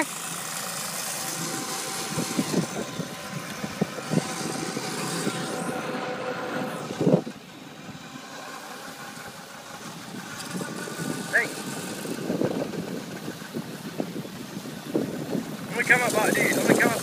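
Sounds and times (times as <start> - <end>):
road rumble: 0.0 - 17.0
wind: 0.0 - 17.0.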